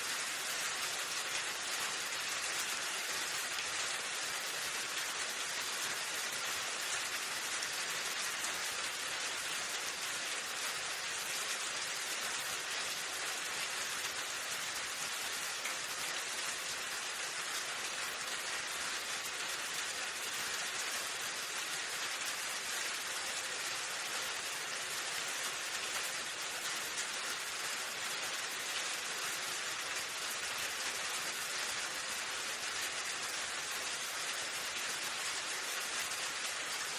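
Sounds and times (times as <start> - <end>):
steady rain: 0.0 - 36.9.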